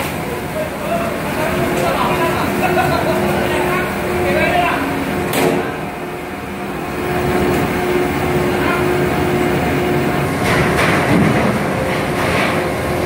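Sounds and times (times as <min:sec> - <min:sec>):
ship machinery droning: 0:00.0 - 0:13.0.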